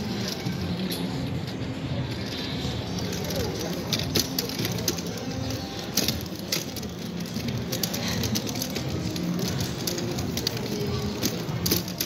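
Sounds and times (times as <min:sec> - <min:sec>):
background hubbub: 0:00.0 - 0:12.0.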